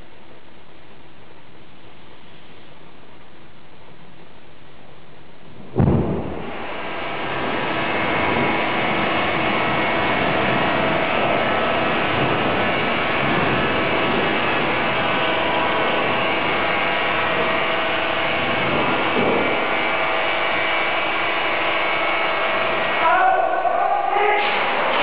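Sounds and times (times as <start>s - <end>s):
flames rushing: 0.2s - 23.1s.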